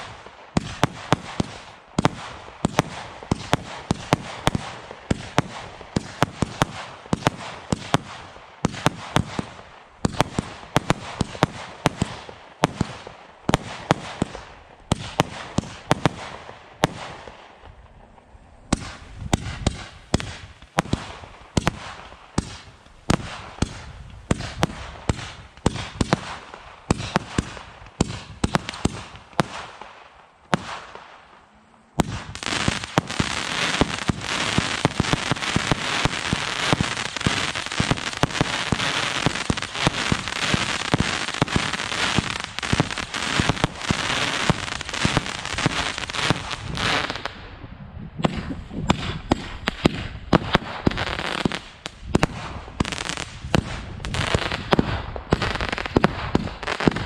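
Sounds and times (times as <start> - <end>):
firework crackling: 0.0 - 47.5, 48.2 - 57.0.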